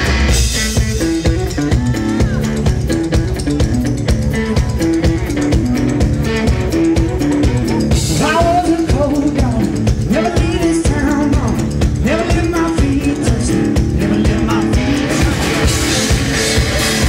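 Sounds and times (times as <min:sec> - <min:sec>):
drum kit: 0:00.0 - 0:17.0
electric guitar riff: 0:00.0 - 0:17.0
person singing: 0:00.7 - 0:03.5, 0:04.2 - 0:17.0.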